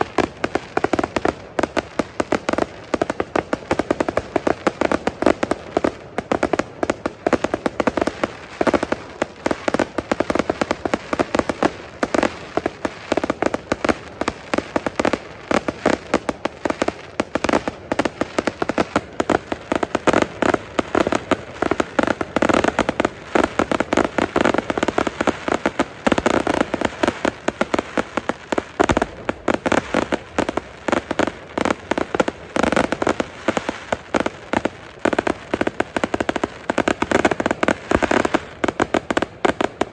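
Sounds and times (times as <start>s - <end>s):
fireworks crackling pops: 0.0s - 39.9s.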